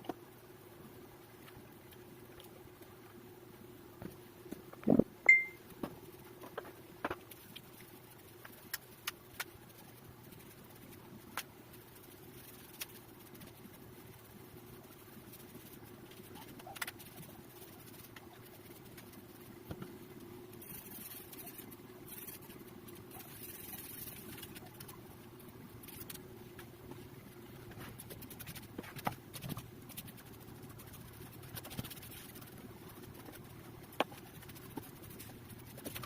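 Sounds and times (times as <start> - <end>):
steady low hum: 0.0 - 36.0
faint scratching: 6.0 - 36.0.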